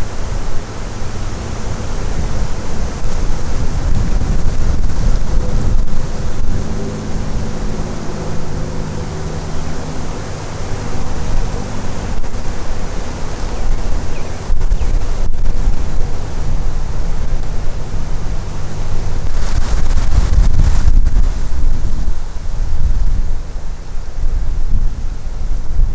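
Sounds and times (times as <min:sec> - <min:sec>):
strong wind buffeting microphone: 0:00.0 - 0:25.9.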